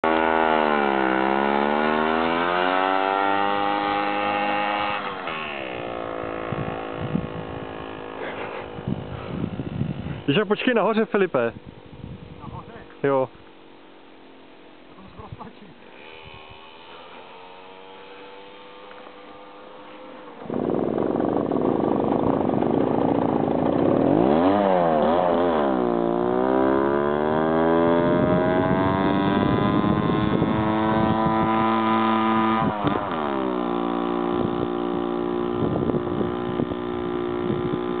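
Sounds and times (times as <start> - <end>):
moped engine revving: 0.0 - 38.0.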